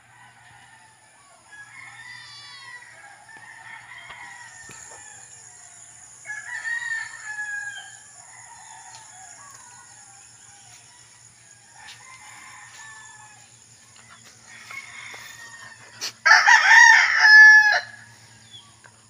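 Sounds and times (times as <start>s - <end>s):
rooster crowing: 0.0s - 13.7s, 14.4s - 18.3s.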